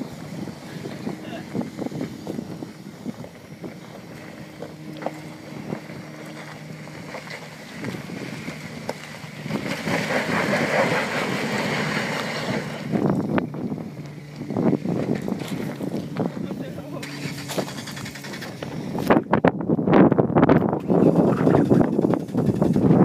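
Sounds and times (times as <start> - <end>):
truck engine climbing: 0.0 - 23.0
wind on microphone: 0.0 - 23.0.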